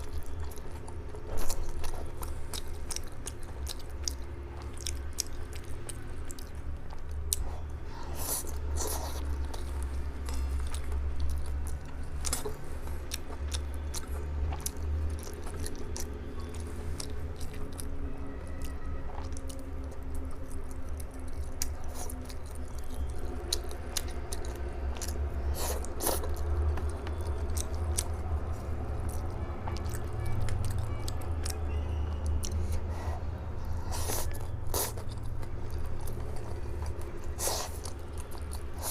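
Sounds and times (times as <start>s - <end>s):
chewing and biting noodles: 0.0s - 38.9s
steady low hum: 0.0s - 38.9s.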